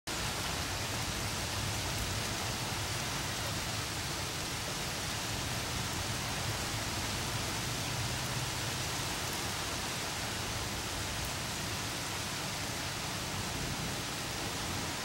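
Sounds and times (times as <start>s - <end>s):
rain on foliage: 0.1s - 15.0s.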